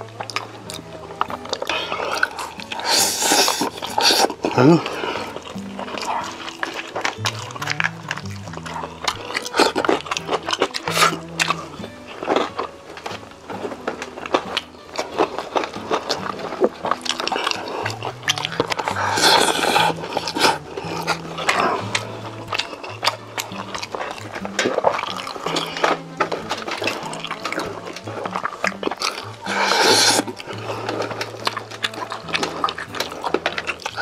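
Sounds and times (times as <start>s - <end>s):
background music with bass: 0.0s - 34.0s
crunchy chewing of food: 0.0s - 34.0s.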